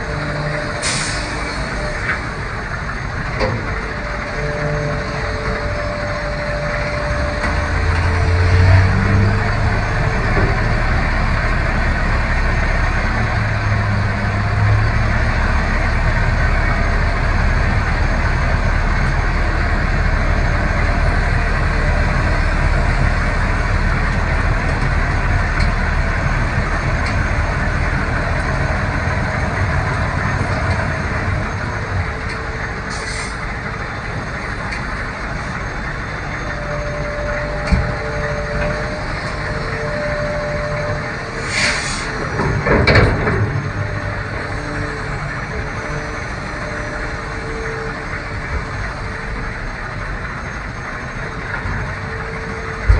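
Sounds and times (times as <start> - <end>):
diesel truck engine rumbling: 0.0 - 52.9.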